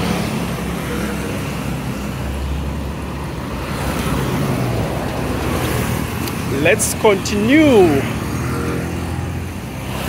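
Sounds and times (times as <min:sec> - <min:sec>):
motorcycles and cars driving past: 0:00.0 - 0:10.0.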